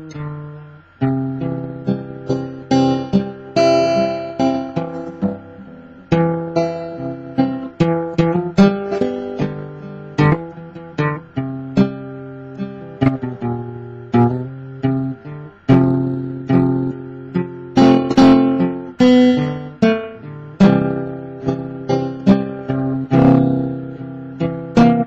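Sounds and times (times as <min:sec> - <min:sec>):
acoustic guitar playing: 0:00.0 - 0:25.0.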